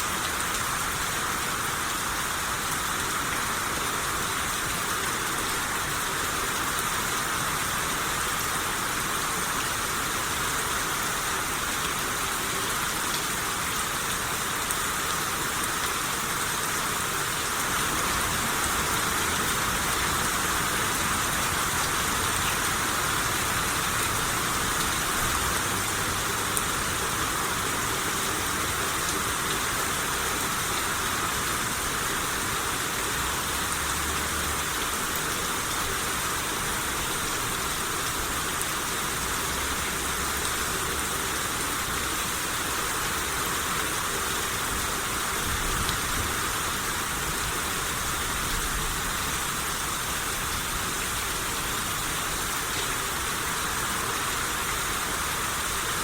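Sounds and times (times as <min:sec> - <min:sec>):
rain shower hissing: 0:00.1 - 0:56.0.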